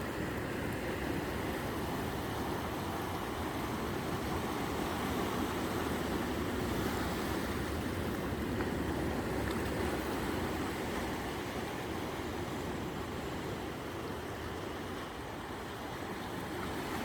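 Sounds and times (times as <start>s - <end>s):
sea surf washing onto shore: 0.0s - 17.0s.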